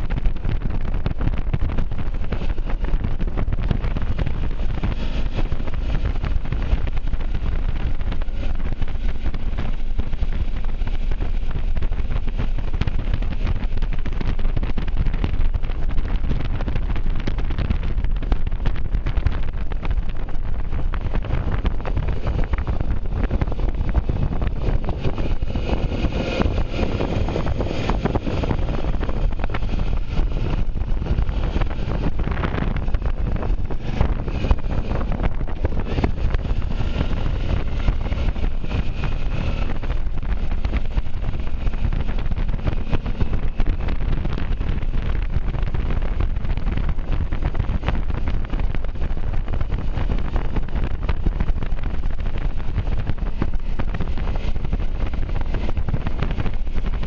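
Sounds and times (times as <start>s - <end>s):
motorcycle rumbling: 0.0s - 57.0s
wind buffeting microphone: 0.0s - 57.0s.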